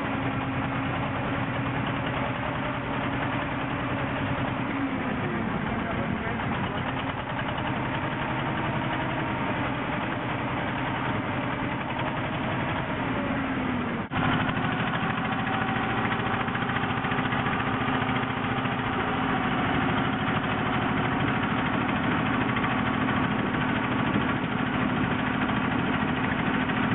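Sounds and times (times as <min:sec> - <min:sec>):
boat engine running: 0:00.0 - 0:26.9.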